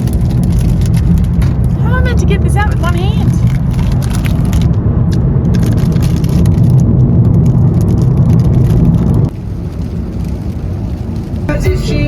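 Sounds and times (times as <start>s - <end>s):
crackles: 0.0s - 12.0s.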